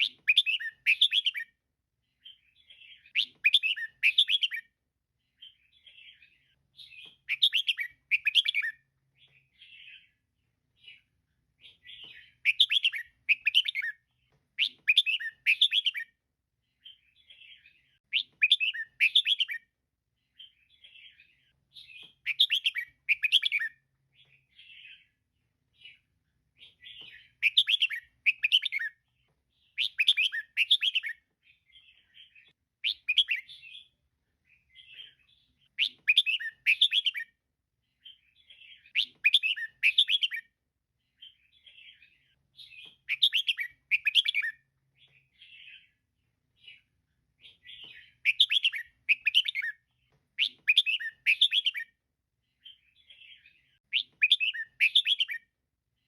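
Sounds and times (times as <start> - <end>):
soft bird calls: 0.0 - 55.6.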